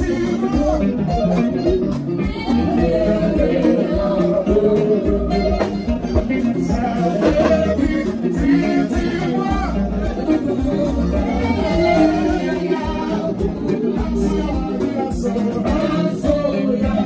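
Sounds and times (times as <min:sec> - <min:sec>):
drums: 0:00.0 - 0:17.0
electric guitar: 0:00.0 - 0:17.0
man singing into a microphone: 0:00.0 - 0:17.0.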